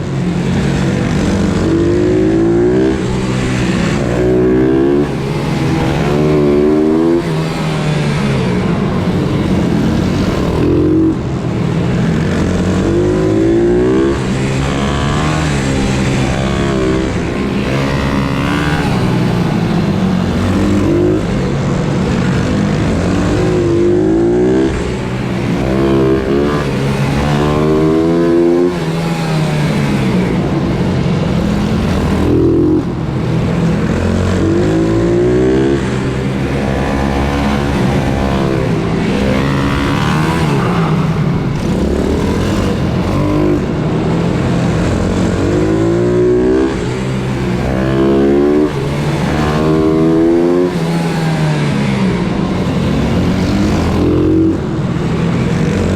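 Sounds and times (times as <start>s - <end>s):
motorbike engine revving: 0.0s - 55.9s.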